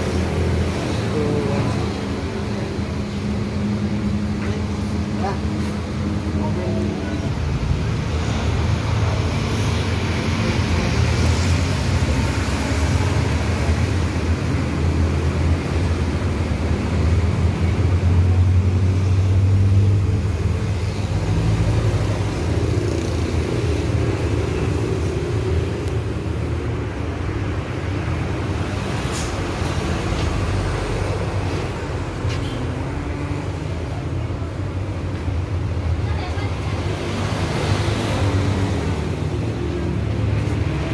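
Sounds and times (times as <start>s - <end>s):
road traffic: 0.0s - 40.9s.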